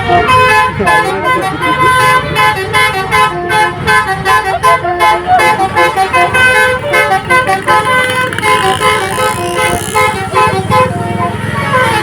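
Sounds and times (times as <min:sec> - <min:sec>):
bus musical air horn: 0:00.0 - 0:12.0.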